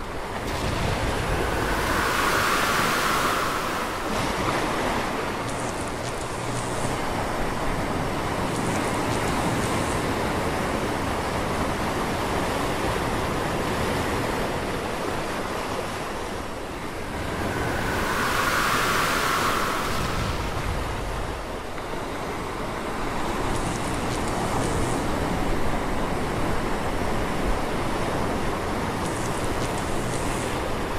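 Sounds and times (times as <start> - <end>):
ocean surf rushing: 0.0 - 30.9.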